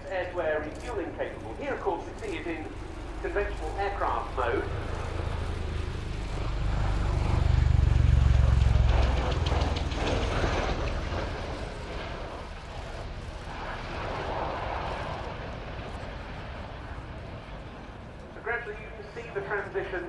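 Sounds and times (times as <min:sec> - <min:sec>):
rapid rotor beating: 0:00.0 - 0:17.2
aircraft rumble flying past: 0:00.0 - 0:20.0.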